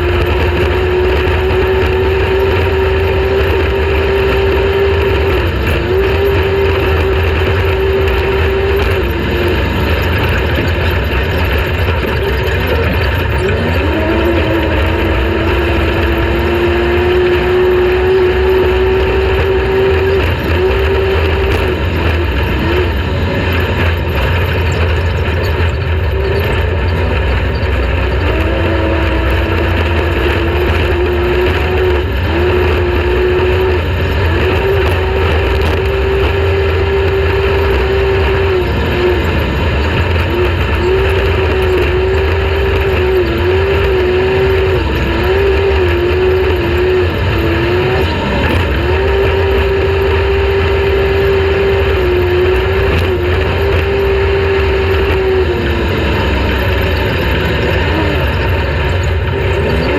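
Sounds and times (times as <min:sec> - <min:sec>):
race vehicle engine revving high: 0:00.0 - 0:59.9.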